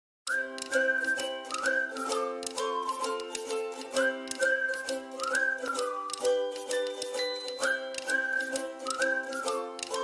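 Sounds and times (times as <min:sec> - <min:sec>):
plucked notes on a beat: 0:00.3 - 0:10.0
whistled melody: 0:00.3 - 0:10.0.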